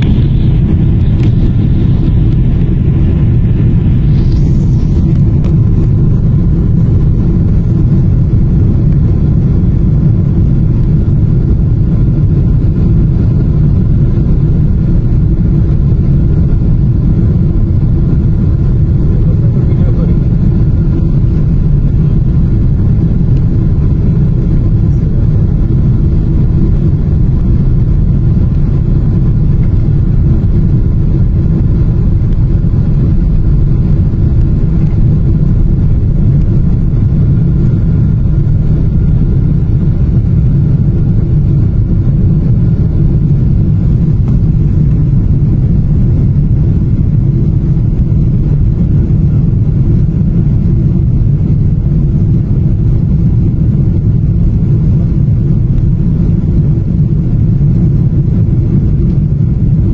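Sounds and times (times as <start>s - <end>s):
faint steady hum: 0.0s - 59.9s
jet engines roaring: 0.0s - 59.9s
takeoff roll rumble: 0.0s - 59.9s.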